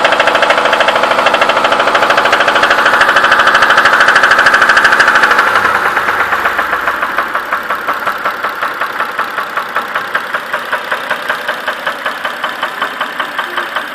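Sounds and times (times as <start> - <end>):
engine idling with knock: 0.0 - 13.9.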